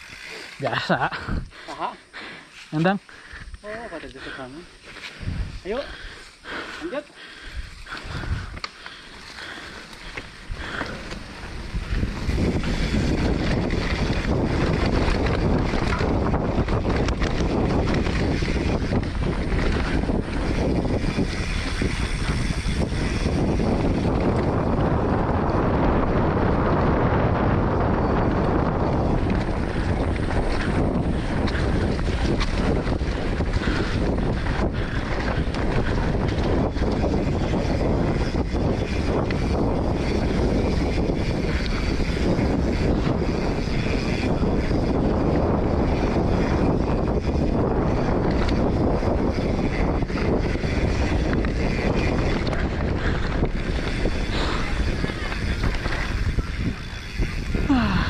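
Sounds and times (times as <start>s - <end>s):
bike tyres rolling on dirt trail: 0.0s - 58.0s
wind buffeting microphone: 0.0s - 58.0s.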